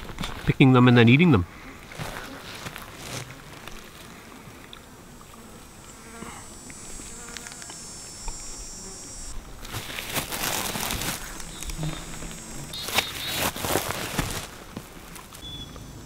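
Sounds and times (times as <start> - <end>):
bushes rustling: 0.0 - 15.9
insect buzzing: 1.4 - 16.0.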